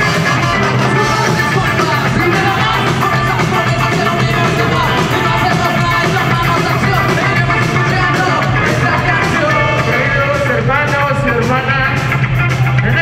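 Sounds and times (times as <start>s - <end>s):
person singing into microphone: 0.0s - 12.1s
live ska band playing: 0.0s - 13.0s.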